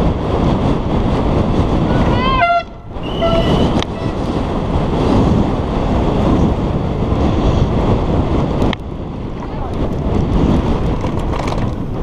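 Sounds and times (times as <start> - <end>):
bike tyres on dirt track: 0.0 - 12.0
wind buffeting camera: 0.0 - 12.0.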